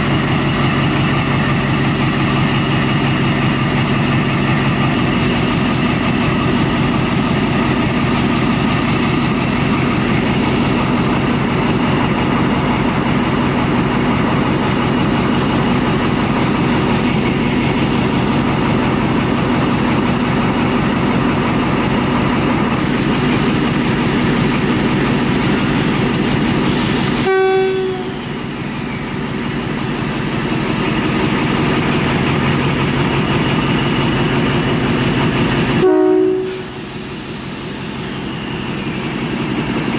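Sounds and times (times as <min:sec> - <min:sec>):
locomotive diesel engine running: 0:00.0 - 0:39.9.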